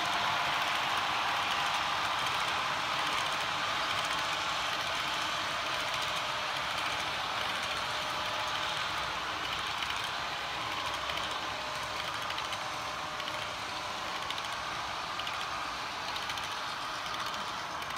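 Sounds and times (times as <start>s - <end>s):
model train cars rolling on track: 0.0s - 17.9s
faint rapid clicking: 0.4s - 17.9s.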